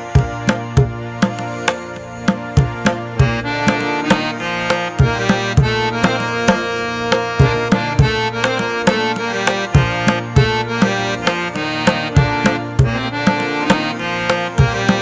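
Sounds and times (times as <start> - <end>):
hand drum beat: 0.0 - 15.0
melodic instruments: 0.0 - 15.0.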